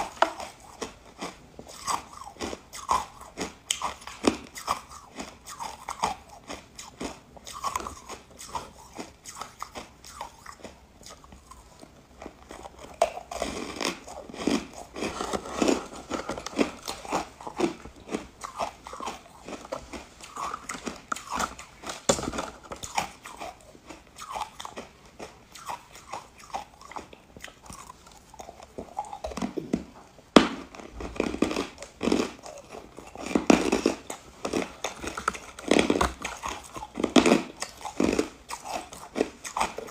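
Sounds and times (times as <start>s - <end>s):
ice crunching between teeth: 0.0s - 29.8s, 30.4s - 39.9s.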